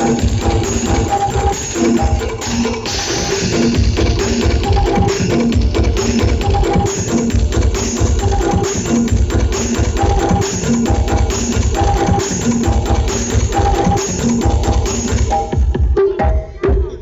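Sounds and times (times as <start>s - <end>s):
loud music with heavy bass beat: 0.0s - 17.0s.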